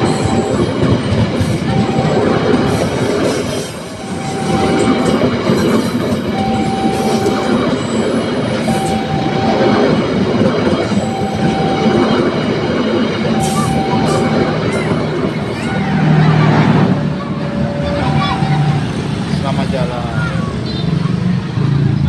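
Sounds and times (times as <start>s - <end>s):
steady warning tone: 0.0s - 19.9s
train wheels rumbling on rails: 0.0s - 22.0s.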